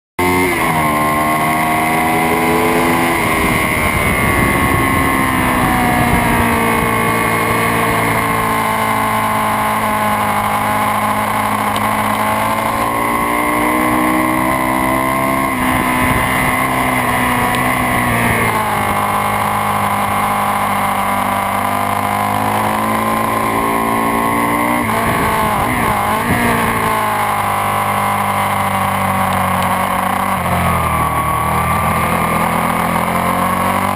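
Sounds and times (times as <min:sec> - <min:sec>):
sportbike engines revving: 0:00.2 - 0:33.9.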